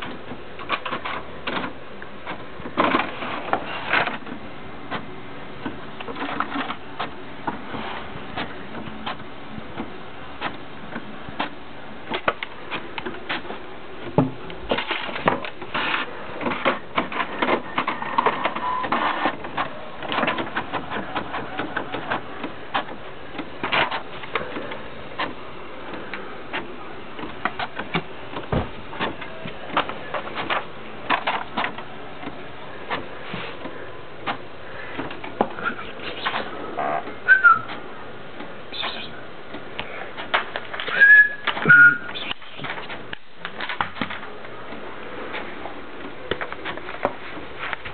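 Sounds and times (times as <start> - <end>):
inkjet printer whirring: 0.0 - 47.9.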